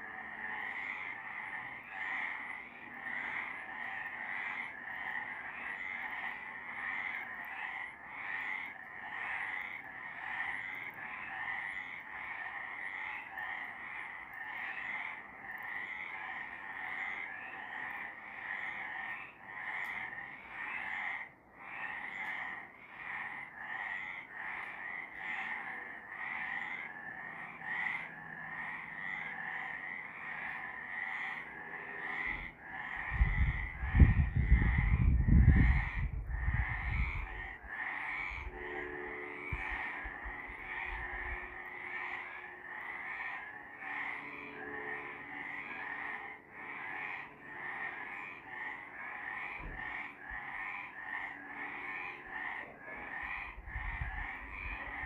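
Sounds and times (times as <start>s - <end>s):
frogs calling: 0.0s - 55.0s.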